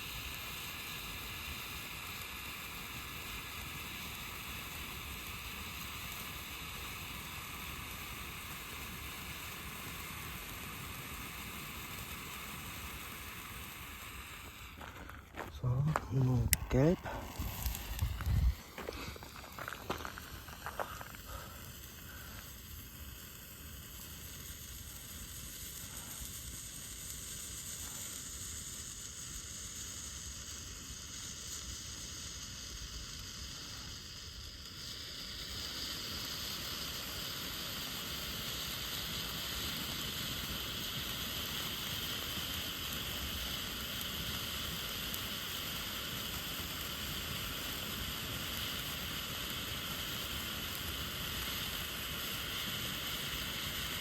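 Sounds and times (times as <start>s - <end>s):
firework crackles: 0.0s - 54.0s
firework sizzling hiss: 0.0s - 54.0s.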